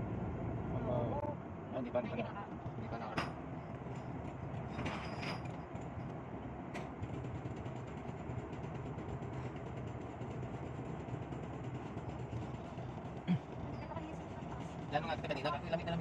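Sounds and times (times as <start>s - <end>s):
engines idling: 0.0s - 16.0s.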